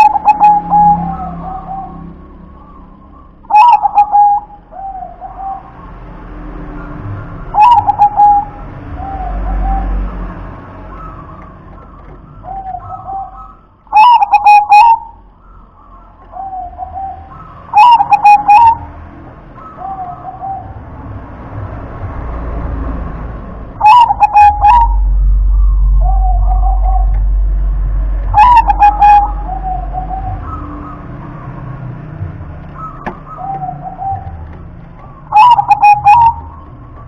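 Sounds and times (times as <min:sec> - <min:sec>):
dove cooing: 0:00.0 - 0:05.9, 0:07.2 - 0:21.0, 0:23.8 - 0:27.4, 0:28.3 - 0:37.0.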